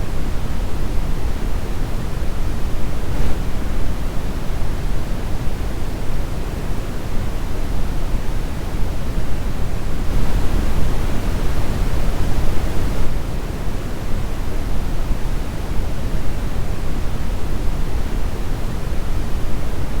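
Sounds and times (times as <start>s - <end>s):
brown noise hiss: 0.0s - 20.0s.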